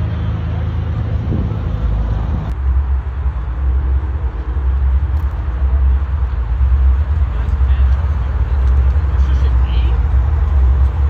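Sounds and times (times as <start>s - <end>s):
car rumbling on the move: 0.0s - 11.0s.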